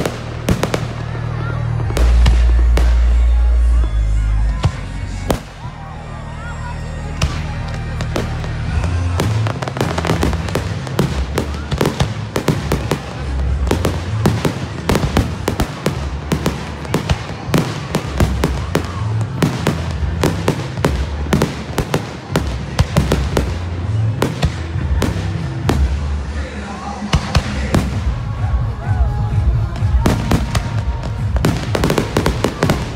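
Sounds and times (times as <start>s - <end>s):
fireworks bangs and crackles: 0.0s - 6.1s, 7.0s - 32.9s
music with deep bass: 0.0s - 32.9s.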